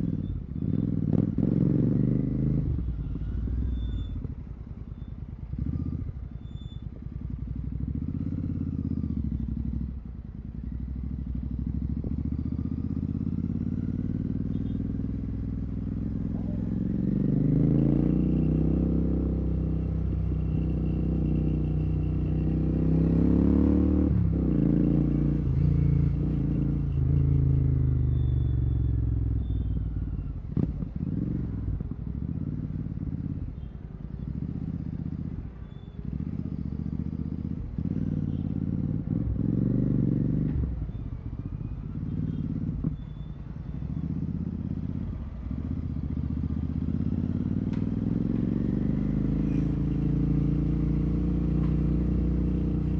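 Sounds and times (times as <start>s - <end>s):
motorcycle engine revving: 0.0s - 4.4s, 5.4s - 6.4s, 7.2s - 35.4s, 36.0s - 52.9s.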